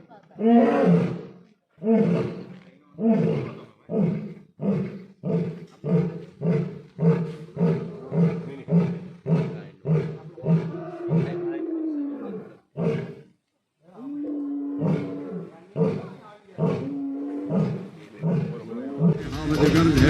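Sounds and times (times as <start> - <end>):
lion grunting calls: 0.0 - 13.3, 13.9 - 20.0
lion roaring: 0.4 - 13.2, 13.9 - 20.0.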